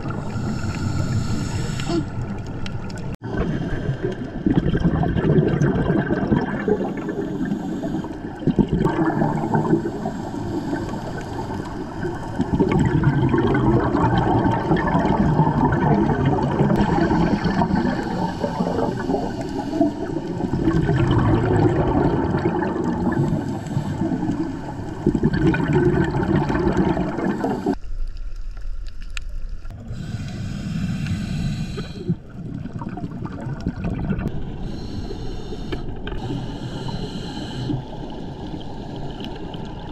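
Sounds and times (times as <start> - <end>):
underwater regulator bubbling: 0.0 - 27.8, 29.7 - 39.9.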